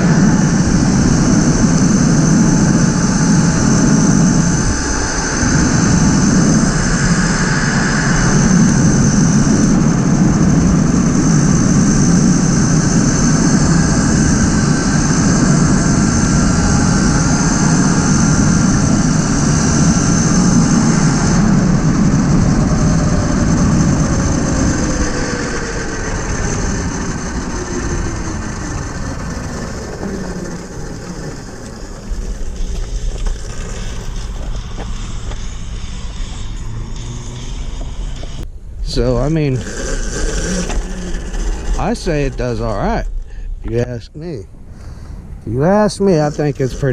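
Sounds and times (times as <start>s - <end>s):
electric motor whine: 0.0s - 44.0s, 44.7s - 46.9s
wind rush on microphone: 0.0s - 46.9s.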